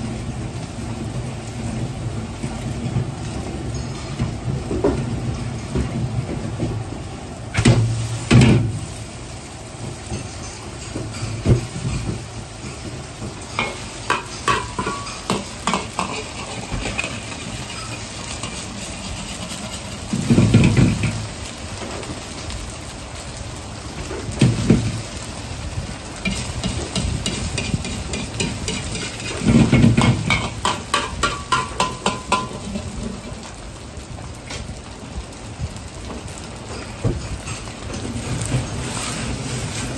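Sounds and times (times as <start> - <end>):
noodles sizzling in oil: 0.0 - 39.9.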